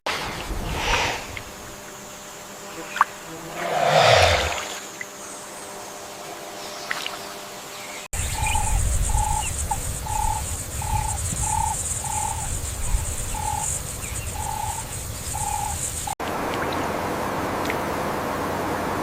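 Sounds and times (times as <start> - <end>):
high insect buzz: 0.1 - 16.2.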